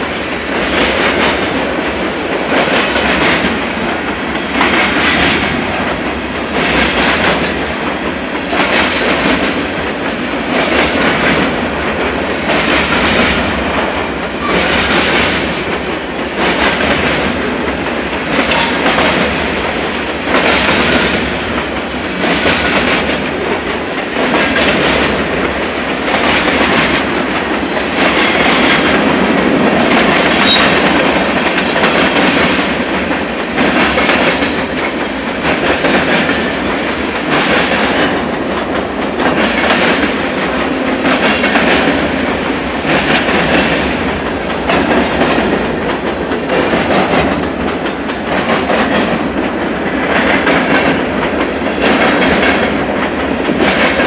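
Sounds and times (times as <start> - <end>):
freight train rumble and rattle: 0.0 - 54.0
wheels clacking over rail joints: 0.0 - 54.0.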